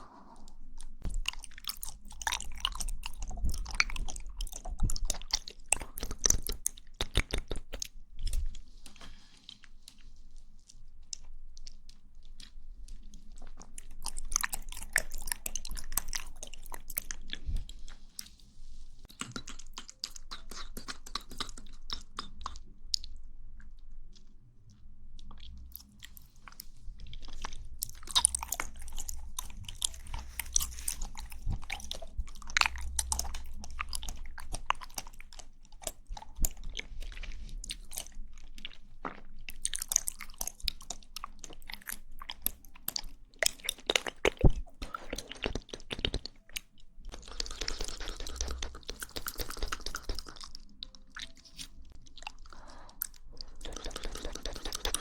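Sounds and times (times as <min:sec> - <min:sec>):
person eating with wet squishing: 0:00.0 - 0:55.0.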